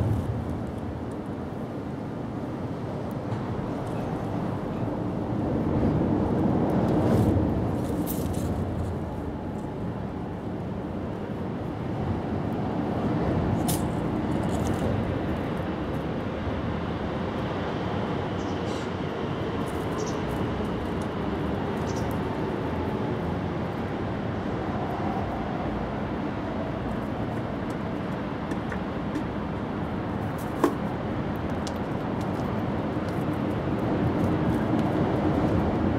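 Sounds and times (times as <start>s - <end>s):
outdoor background hum: 0.0s - 35.9s.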